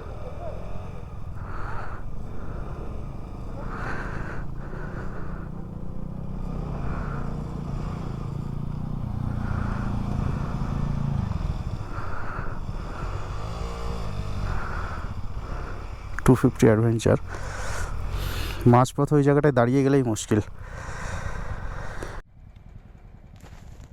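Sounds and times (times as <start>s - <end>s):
motorcycle engine climbing: 0.0s - 23.9s.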